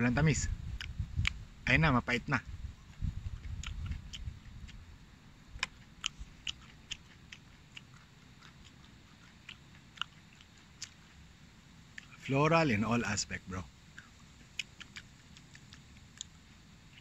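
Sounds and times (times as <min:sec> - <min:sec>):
mouth chewing clicks and smacks: 0:00.4 - 0:12.3, 0:13.8 - 0:17.0.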